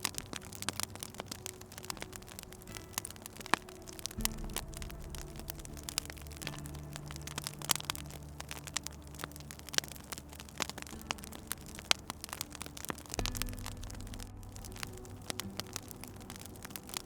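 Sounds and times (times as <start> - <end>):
low steady hum: 0.0 - 17.0
wood fire crackling and popping: 0.0 - 17.0.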